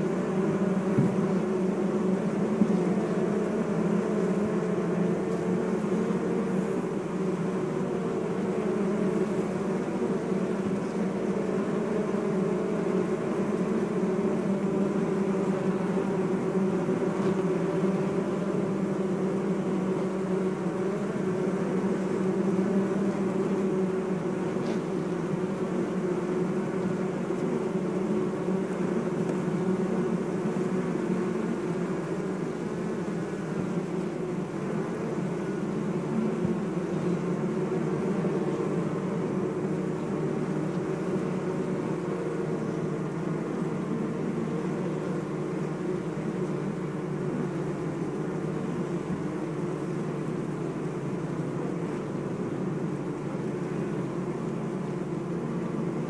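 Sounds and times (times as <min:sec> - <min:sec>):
honeybees buzzing in hive: 0:00.0 - 0:56.0.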